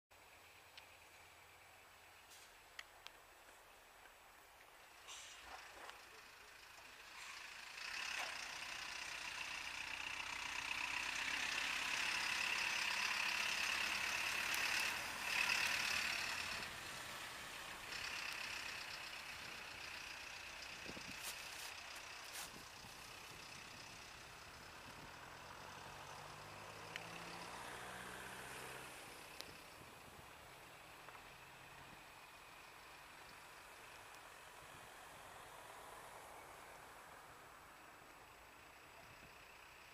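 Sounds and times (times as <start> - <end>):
fire engine driving past: 4.8 - 39.9.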